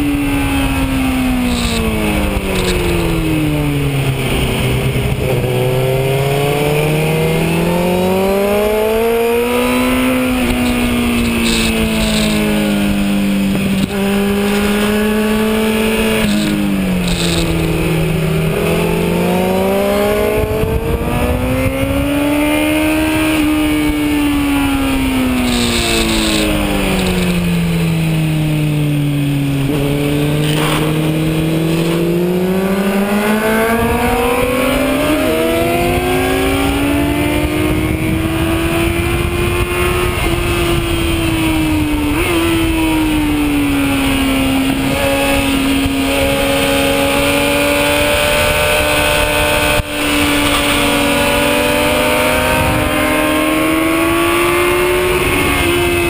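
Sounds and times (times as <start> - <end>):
motorcycle engine accelerating: 0.0 - 56.0
wind noise: 0.0 - 56.0.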